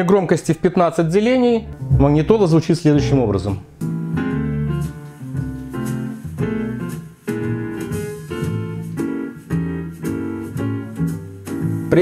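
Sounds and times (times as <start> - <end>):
keyboard music from speakers: 1.5 - 12.0.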